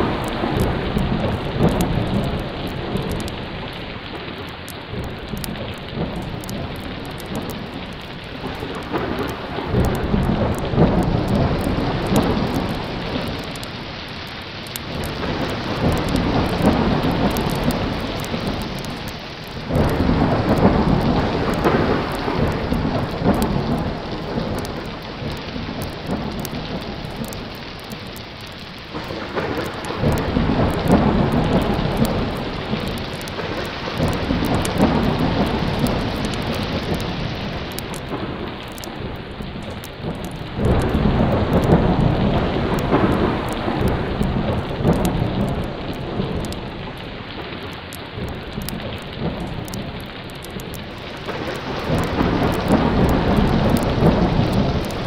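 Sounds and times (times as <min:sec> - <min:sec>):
heavy rain: 0:00.0 - 0:55.0
rolling thunder: 0:00.0 - 0:55.0.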